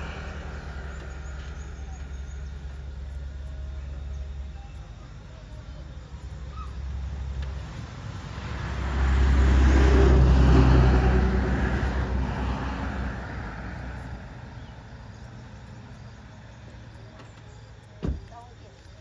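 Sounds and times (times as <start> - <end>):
vehicle engine passing by: 0.0 - 5.0, 5.9 - 17.4.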